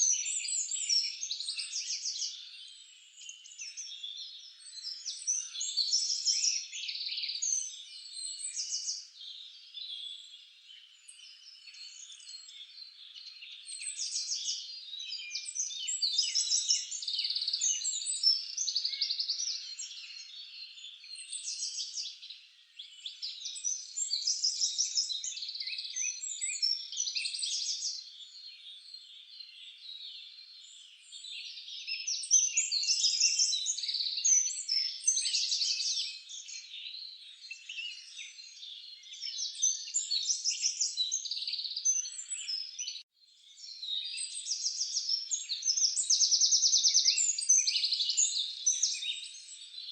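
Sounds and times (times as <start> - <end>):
songbirds chirping and trilling: 0.0 - 49.9.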